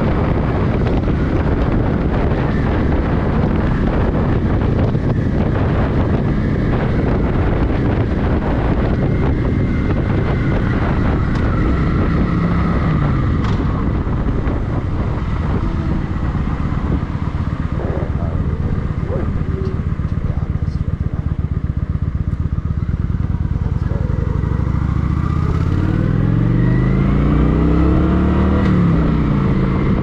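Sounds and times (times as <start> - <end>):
motorcycle engine running: 0.0 - 30.0
road noise: 0.0 - 30.0
wind buffeting microphone: 0.0 - 30.0.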